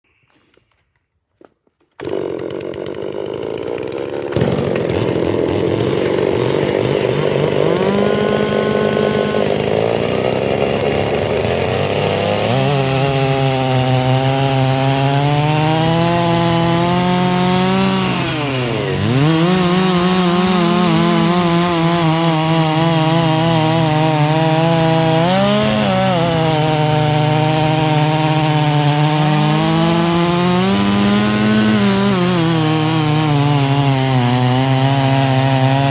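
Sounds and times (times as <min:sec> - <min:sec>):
chainsaw cutting wood: 0:01.4 - 0:35.9.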